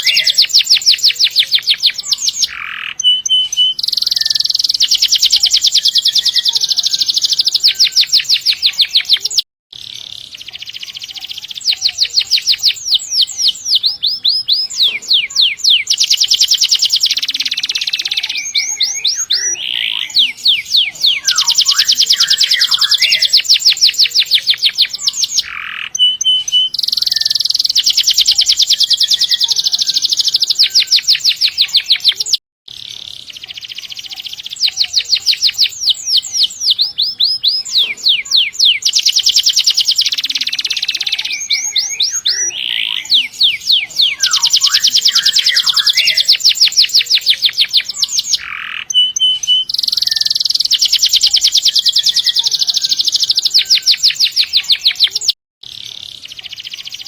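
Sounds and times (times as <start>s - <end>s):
canary singing high trills: 0.0s - 57.0s.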